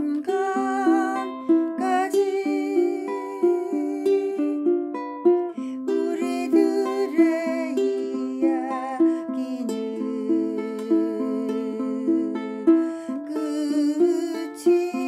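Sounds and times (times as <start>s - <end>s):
ukulele fingerpicked arpeggios: 0.0s - 15.0s.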